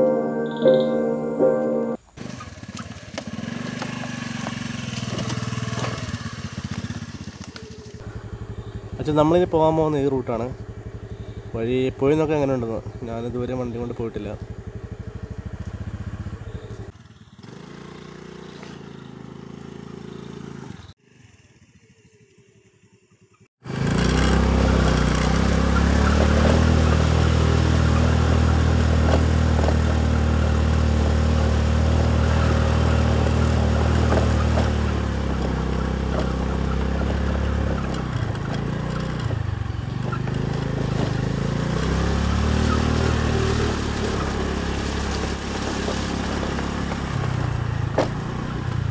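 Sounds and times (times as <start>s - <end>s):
scooter engine running: 2.2s - 48.9s.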